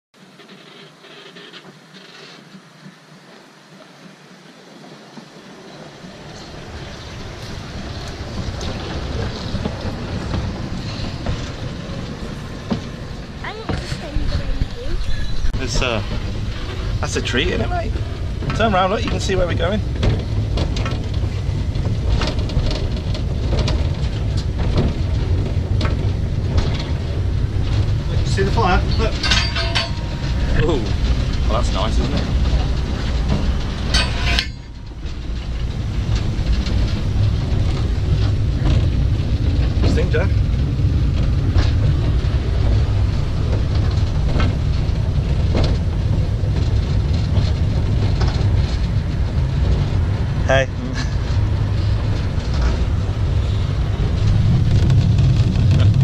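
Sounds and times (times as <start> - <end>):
clanks from running gear and rails: 0.2 - 56.0
steam locomotive rumble and hiss: 0.2 - 56.0.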